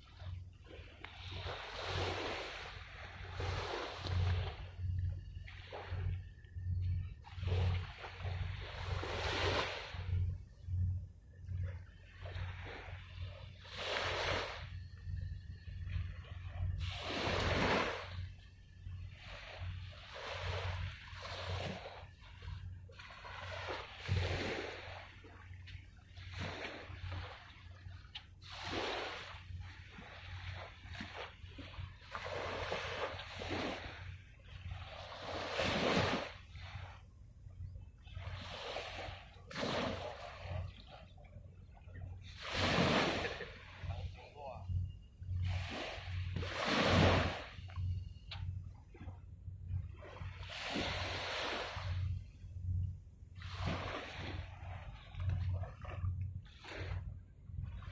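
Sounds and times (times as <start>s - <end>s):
small waves washing on shore: 0.0s - 37.1s, 38.0s - 44.7s, 45.3s - 52.4s, 53.3s - 57.9s
steady low rumble: 0.0s - 57.9s.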